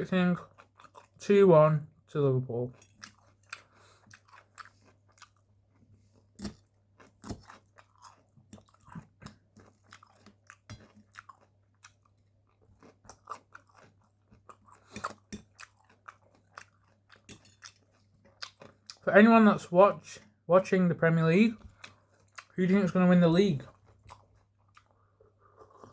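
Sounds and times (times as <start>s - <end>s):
crunchy chewing: 0.4s - 1.2s, 2.7s - 19.0s, 21.7s - 25.9s.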